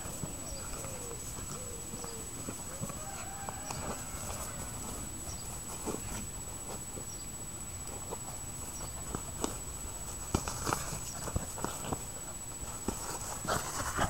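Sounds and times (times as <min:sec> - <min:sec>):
ball and paws thumping: 0:00.0 - 0:07.1, 0:07.9 - 0:14.0.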